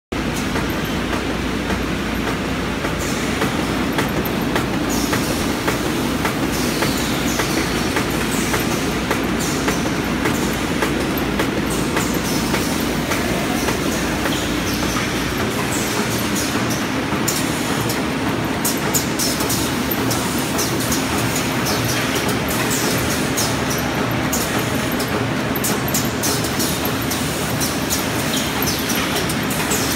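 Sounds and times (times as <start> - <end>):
rhythmic clicking: 0.4 - 29.9.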